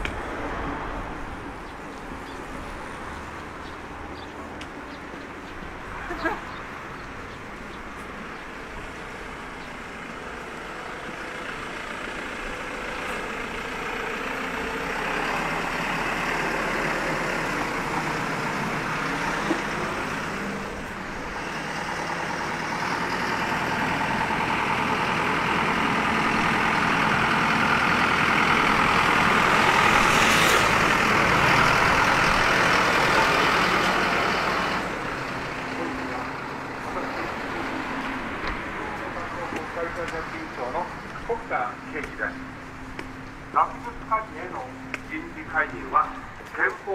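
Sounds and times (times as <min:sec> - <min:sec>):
heavy truck: 0:00.0 - 0:46.9
street traffic: 0:00.0 - 0:46.9.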